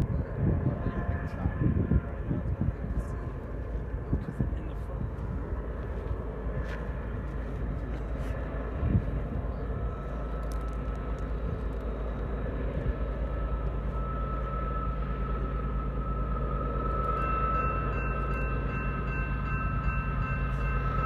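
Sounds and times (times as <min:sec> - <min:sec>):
diesel locomotive rumble: 0:00.0 - 0:21.0.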